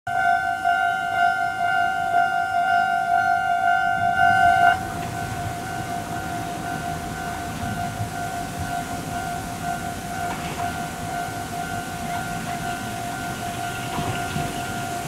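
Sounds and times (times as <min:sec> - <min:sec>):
level-crossing warning bell: 0:00.1 - 0:15.0.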